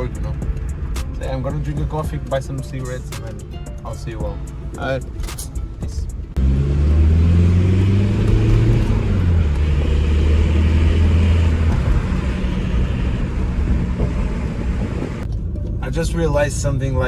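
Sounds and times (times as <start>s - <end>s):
car engine drone: 0.0s - 17.0s
road and tyre noise: 0.0s - 17.0s.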